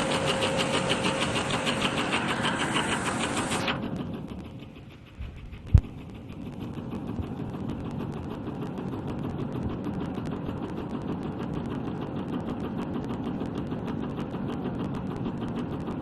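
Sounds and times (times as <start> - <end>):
sewing machine running: 0.0 - 13.3.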